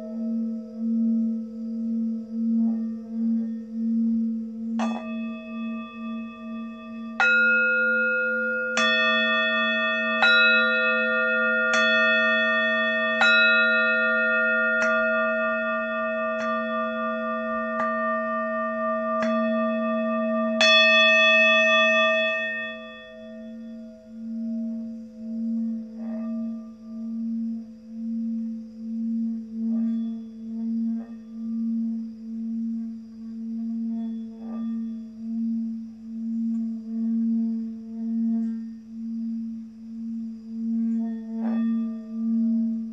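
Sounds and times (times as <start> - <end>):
low wavering hum: 0.0 - 42.9
singing bowl struck: 0.0 - 42.9.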